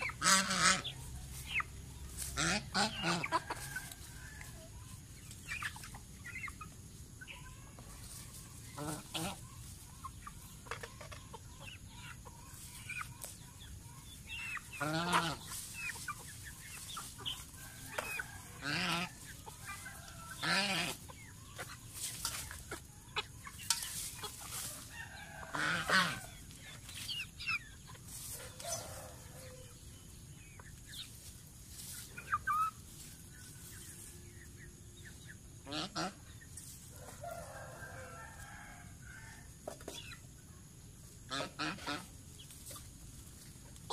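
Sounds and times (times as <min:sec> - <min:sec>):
chickens clucking and squawking: 0:00.0 - 0:43.9.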